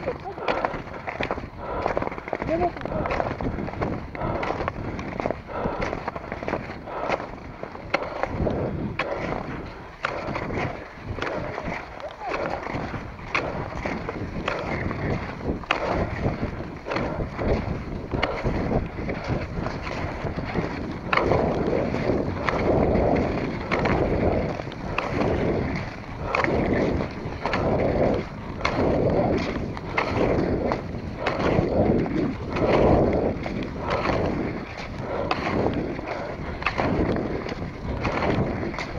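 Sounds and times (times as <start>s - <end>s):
skis swishing on snow: 0.0s - 38.9s
wind rumble on microphone: 0.0s - 38.9s.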